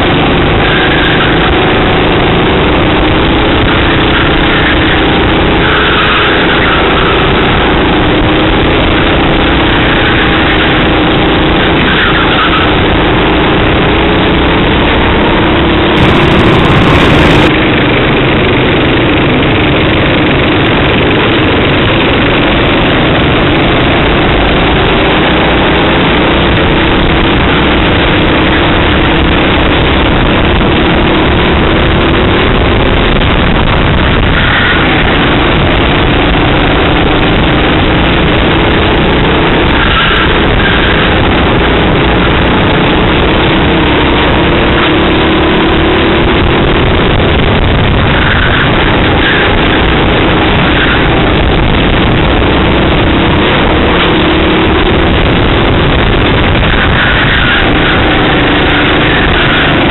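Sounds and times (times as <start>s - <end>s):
racing kart engine: 0.0s - 59.9s
wind noise on microphone: 0.0s - 59.9s.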